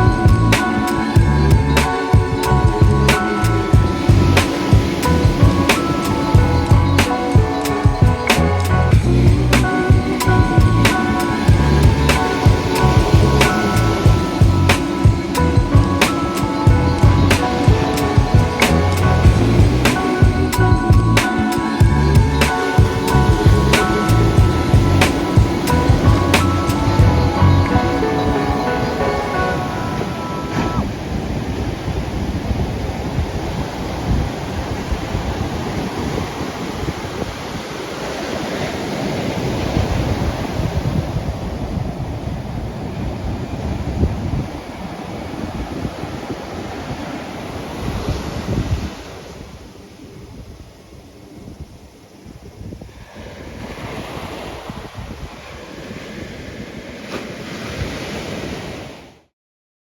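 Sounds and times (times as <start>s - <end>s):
wind buffeting microphone: 0.0s - 59.0s
ocean surf breaking on beach: 0.0s - 59.3s.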